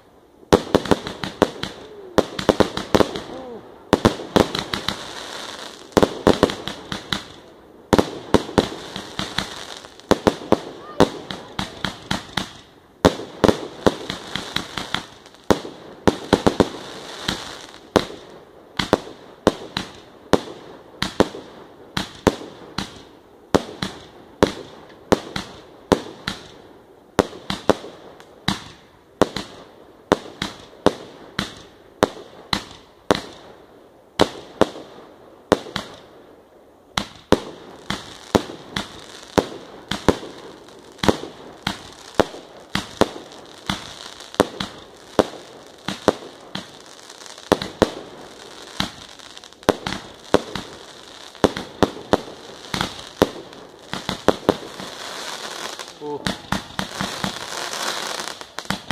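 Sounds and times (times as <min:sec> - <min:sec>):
firework hiss: 0:00.0 - 0:26.6, 0:37.0 - 0:58.9.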